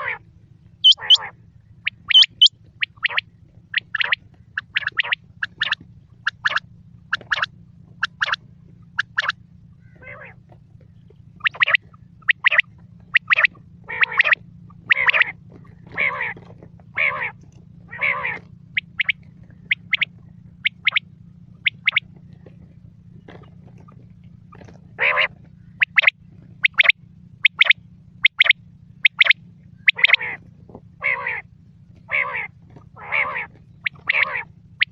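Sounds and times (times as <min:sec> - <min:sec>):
quail calling: 0:00.0 - 0:00.2, 0:00.8 - 0:10.6, 0:11.4 - 0:22.6, 0:23.3 - 0:31.5, 0:32.1 - 0:34.9
steady low hum: 0:00.0 - 0:34.9.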